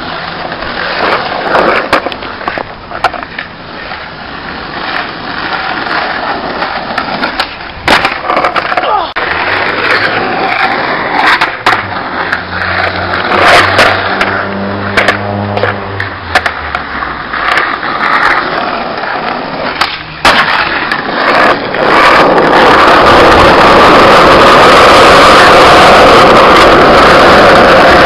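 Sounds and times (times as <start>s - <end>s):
skateboard clacking on ground: 0.0s - 28.0s
skateboard wheels rolling on asphalt: 0.0s - 28.0s.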